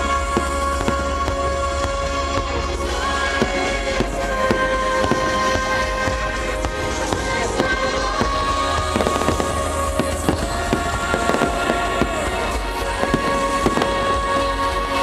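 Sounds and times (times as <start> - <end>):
fireworks bursting and crackling: 0.0 - 15.0
music with sustained chords: 0.0 - 15.0.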